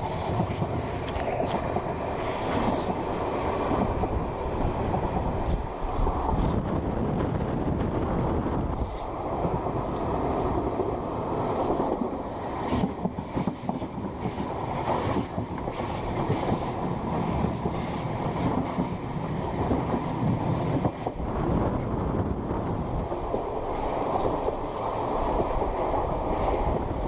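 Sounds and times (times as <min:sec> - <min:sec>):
train rushing rumble: 0:00.0 - 0:27.0.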